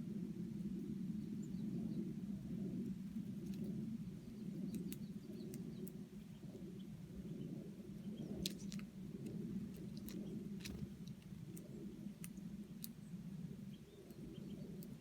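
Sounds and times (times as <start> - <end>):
steady low rumble: 0.0 - 15.0
small birds chirping: 1.2 - 15.0.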